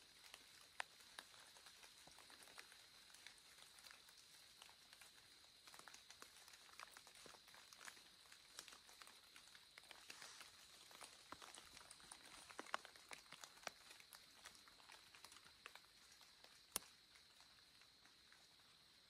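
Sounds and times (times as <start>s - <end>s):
faint ticks and clicks: 0.0s - 19.0s.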